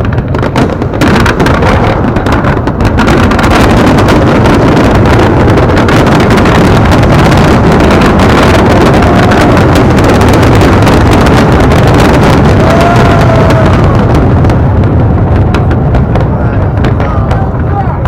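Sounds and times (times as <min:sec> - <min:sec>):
fireworks barrage: 0:00.0 - 0:18.0.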